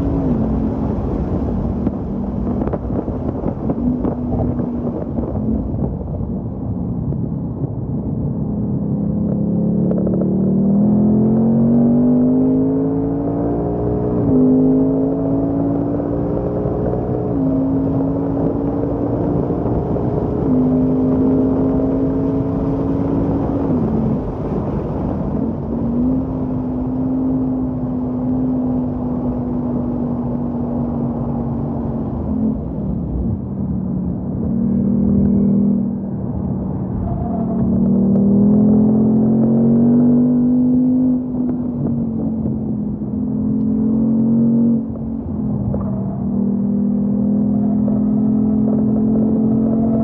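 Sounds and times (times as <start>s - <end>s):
wind noise: 0.0s - 50.0s
car engine accelerating hard: 9.0s - 50.0s.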